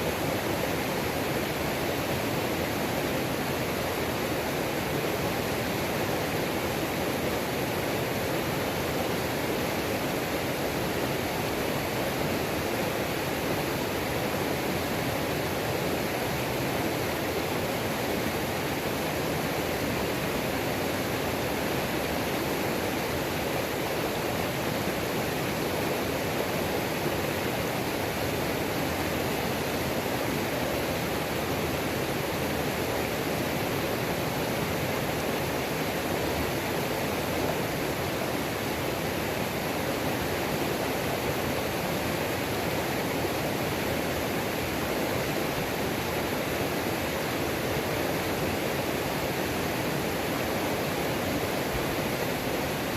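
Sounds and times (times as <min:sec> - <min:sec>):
waterfall pouring and splashing: 0:00.0 - 0:52.9.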